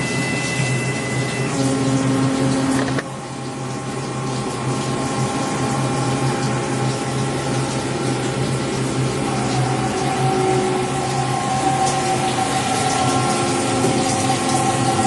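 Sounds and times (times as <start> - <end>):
lathe running with steady hum: 0.0 - 15.0.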